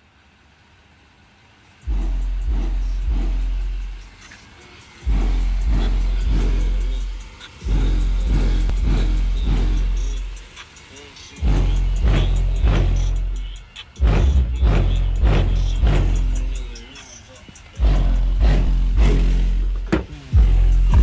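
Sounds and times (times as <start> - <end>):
bass-heavy music from car: 1.8 - 21.0.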